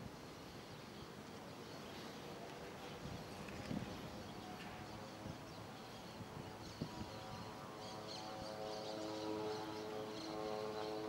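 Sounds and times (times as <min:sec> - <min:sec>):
distant aircraft engine hum: 0:00.1 - 0:11.0.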